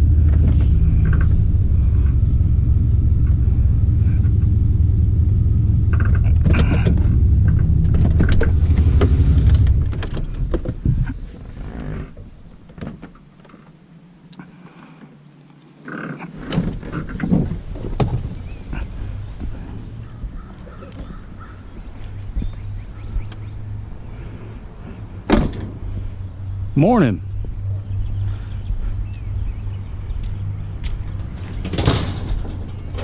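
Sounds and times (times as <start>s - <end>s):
vehicle engine running: 0.0s - 14.1s, 16.7s - 33.0s.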